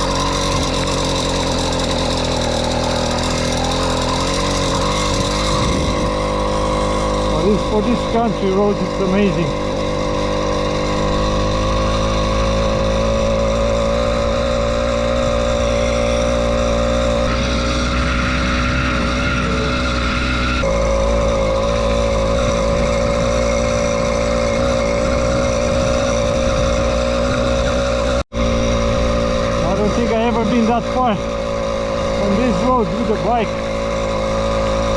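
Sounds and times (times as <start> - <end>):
buzzy two-stroke engine running: 0.0 - 34.9.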